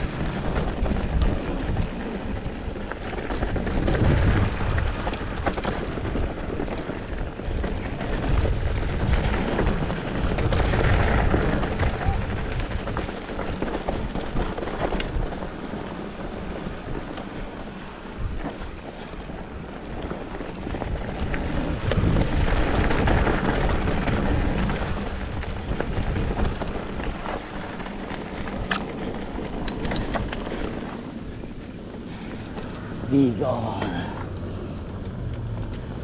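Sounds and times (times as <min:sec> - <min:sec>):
mountain bike rumbling on dirt trail: 0:00.0 - 0:36.0
wind buffeting microphone: 0:00.0 - 0:36.0.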